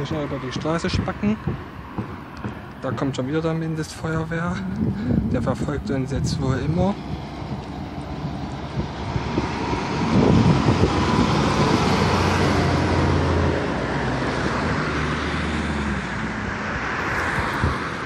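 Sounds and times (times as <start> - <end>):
low drone of vehicle engines: 0.0 - 18.0
fire engine driving past: 1.2 - 18.0.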